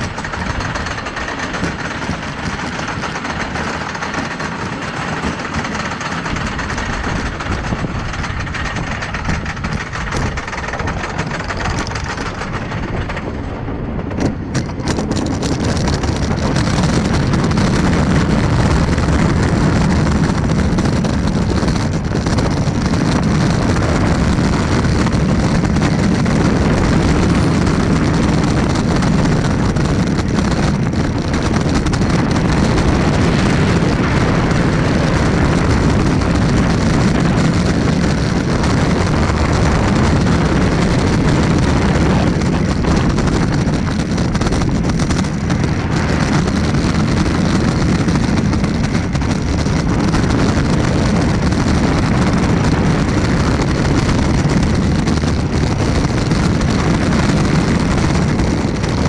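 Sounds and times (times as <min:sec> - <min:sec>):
roller coaster wheels rumbling: 0:00.0 - 0:59.0
wind buffeting microphone: 0:00.0 - 0:59.0.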